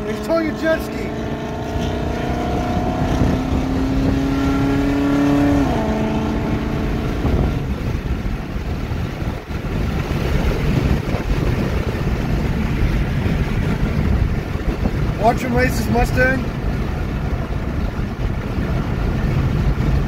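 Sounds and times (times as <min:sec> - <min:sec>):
car engine accelerating: 0:00.0 - 0:20.0
road and wind noise: 0:00.0 - 0:20.0.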